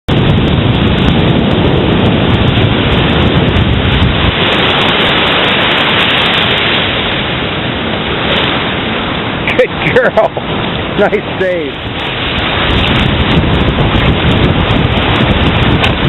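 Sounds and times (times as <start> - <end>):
ocean surf rushing: 0.1 - 16.0
wind buffeting microphone: 0.1 - 16.0.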